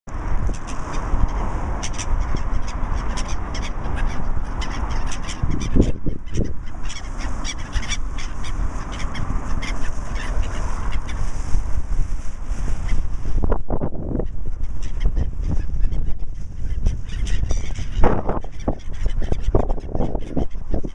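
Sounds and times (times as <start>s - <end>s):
birds calling: 0.1s - 20.9s
steady low rumble: 0.1s - 20.9s.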